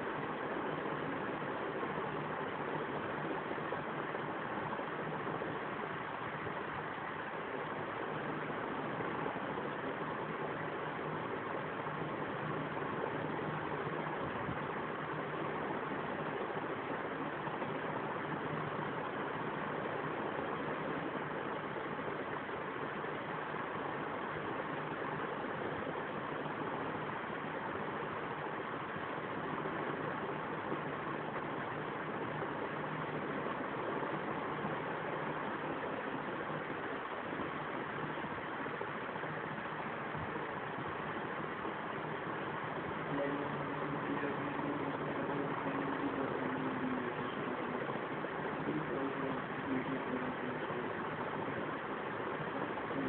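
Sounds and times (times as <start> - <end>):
faint low hum: 0.0 - 53.0
steady hiss: 0.0 - 53.0
steady rushing noise: 0.0 - 53.0.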